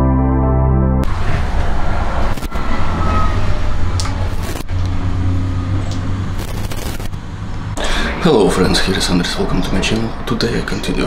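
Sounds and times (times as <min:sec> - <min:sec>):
road traffic rumble: 0:01.0 - 0:11.0.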